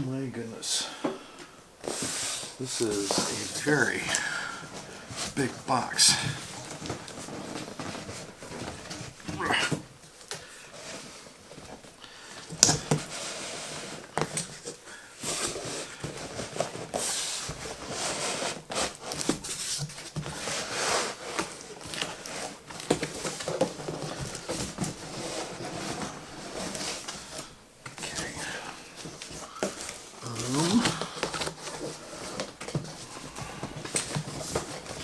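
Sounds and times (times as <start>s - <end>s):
cardboard box rustling and scraping: 1.8s - 12.0s, 12.8s - 35.0s.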